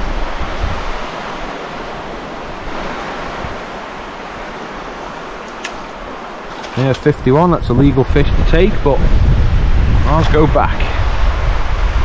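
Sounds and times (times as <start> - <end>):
sea waves washing on shore: 0.0 - 12.0
wind on microphone: 0.0 - 12.0.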